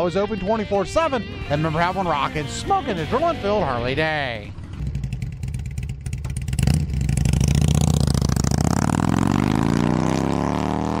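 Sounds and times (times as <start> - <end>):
motorcycle engine revving: 1.2 - 11.0.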